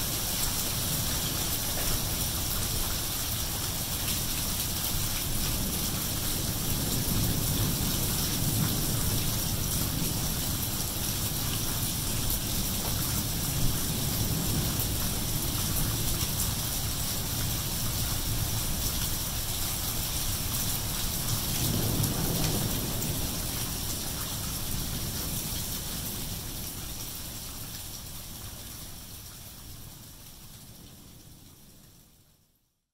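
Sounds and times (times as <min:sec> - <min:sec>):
heavy rain on pavement: 0:00.0 - 0:32.5.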